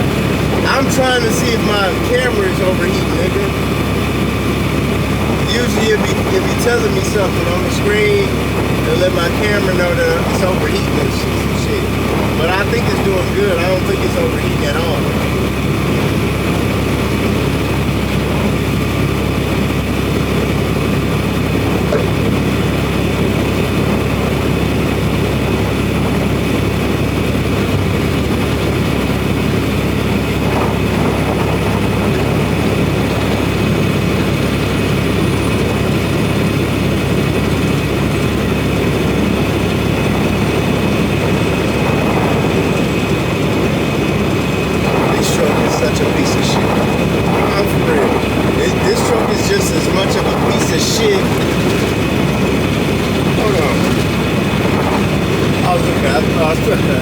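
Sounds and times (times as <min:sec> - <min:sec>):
truck engine and road drone: 0:00.0 - 0:57.0.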